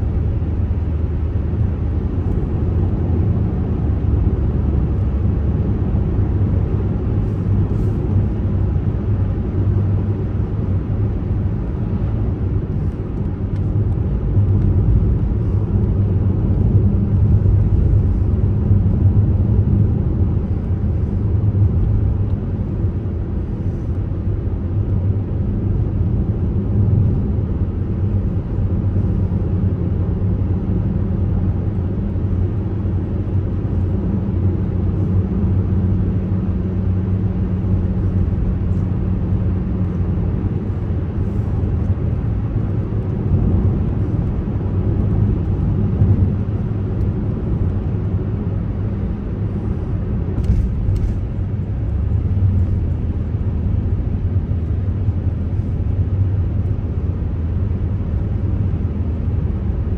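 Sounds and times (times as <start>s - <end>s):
car engine and tyre drone: 0.0s - 59.9s.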